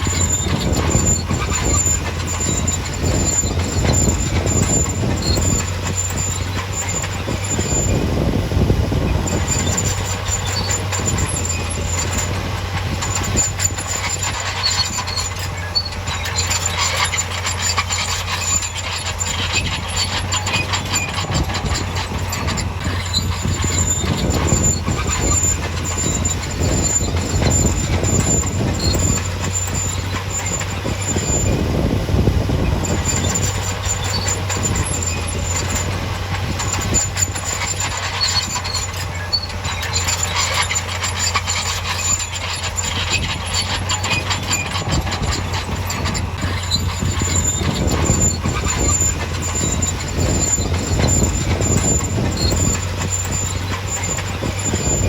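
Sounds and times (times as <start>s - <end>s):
diesel engine running: 0.0s - 55.0s
metallic clanks and squeals: 0.0s - 55.0s.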